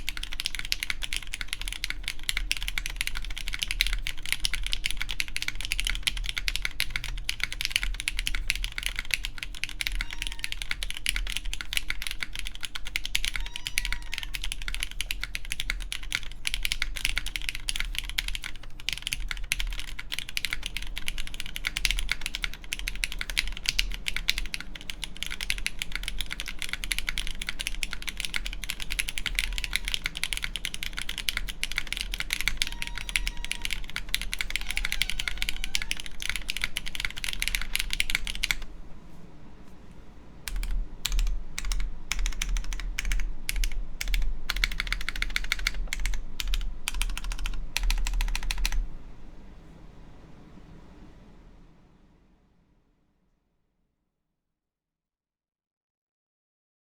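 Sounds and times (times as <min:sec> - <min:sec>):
mechanical keyboard typing: 0:00.0 - 0:38.7, 0:40.5 - 0:48.9.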